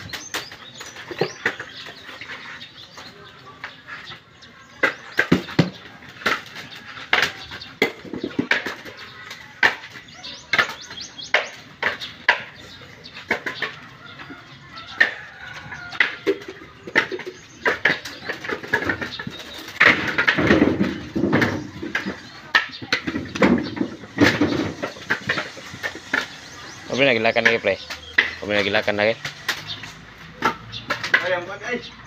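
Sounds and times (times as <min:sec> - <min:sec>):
coconuts knocking together: 0:04.6 - 0:31.7.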